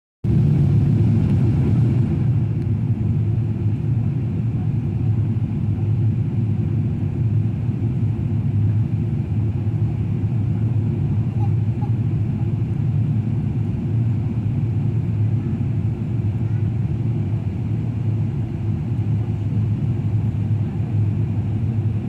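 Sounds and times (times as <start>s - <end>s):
airliner cabin engine rumble: 0.2s - 22.0s.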